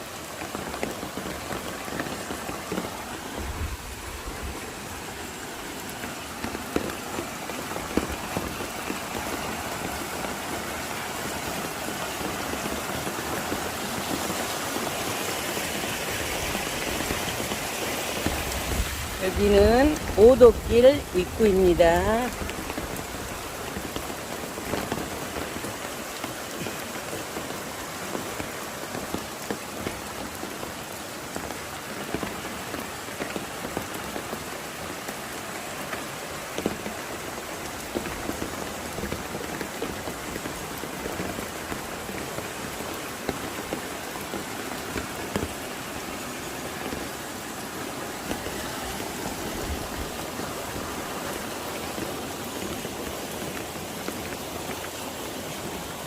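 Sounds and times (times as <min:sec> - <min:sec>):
raindrops tapping a surface: 0:00.0 - 0:56.0
steady rain: 0:00.0 - 0:56.0.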